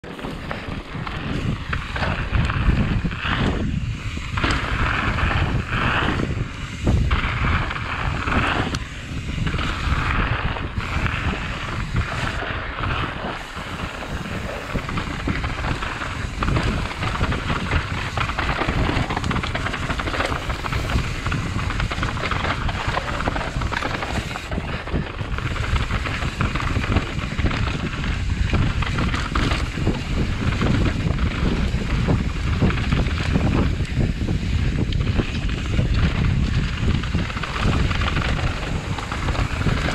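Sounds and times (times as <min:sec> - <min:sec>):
mountain bike rumbling and rattling: 0:00.0 - 0:39.9
wind buffeting microphone: 0:00.0 - 0:39.9.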